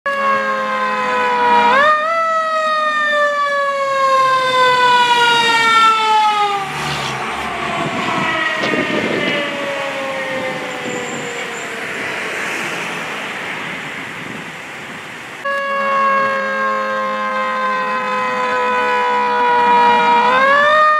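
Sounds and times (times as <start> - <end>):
fire truck siren wailing: 0.1 - 13.9, 15.4 - 20.9
truck engine and road noise: 0.1 - 20.9.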